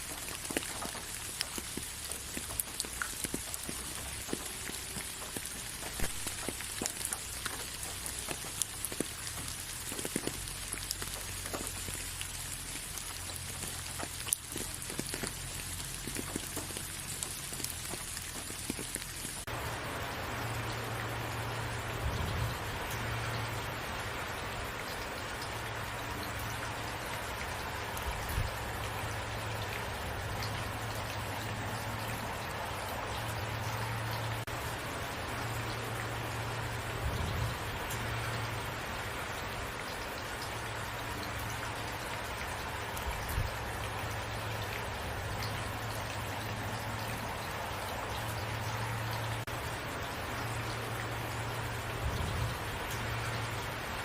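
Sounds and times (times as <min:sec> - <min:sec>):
raindrops ticking on a surface: 0:00.0 - 0:54.0
steady rain: 0:00.0 - 0:54.0.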